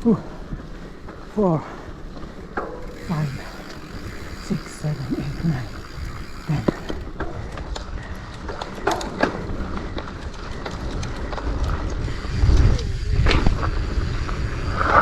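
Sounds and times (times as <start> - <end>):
bike rattling: 0.0 - 15.0.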